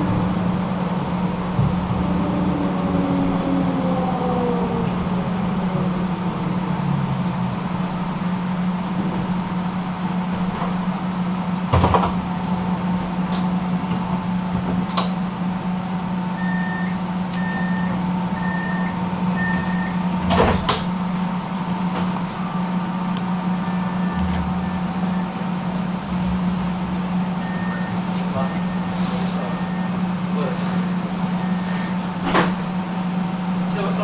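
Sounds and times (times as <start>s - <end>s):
tram electrical hum: 0.0s - 34.0s.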